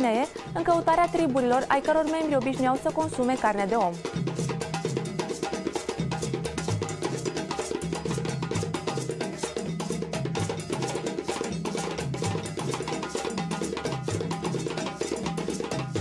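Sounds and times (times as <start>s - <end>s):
music with fast percussion and bass: 0.0s - 16.0s.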